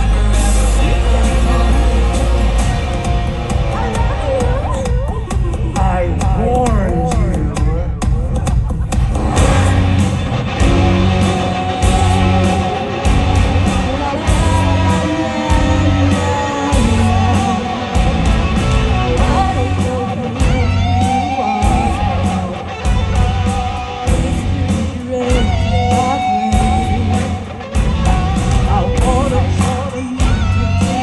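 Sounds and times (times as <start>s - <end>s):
loud rock music: 0.0s - 31.0s
person singing: 0.0s - 31.0s.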